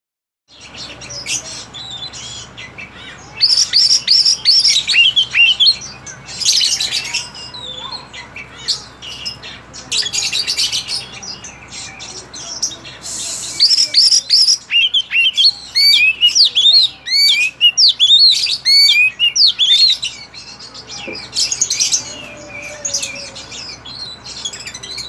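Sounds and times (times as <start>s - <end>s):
bird singing whistled notes: 0.5s - 8.0s, 10.1s - 25.0s
bird chattering: 0.6s - 25.0s.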